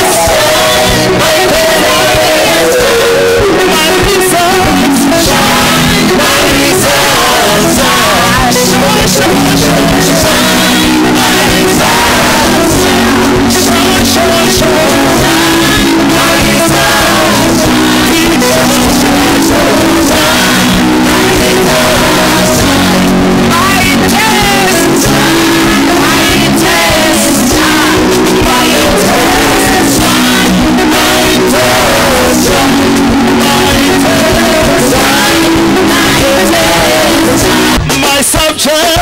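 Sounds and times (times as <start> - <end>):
worship music with singing: 0.0 - 39.0.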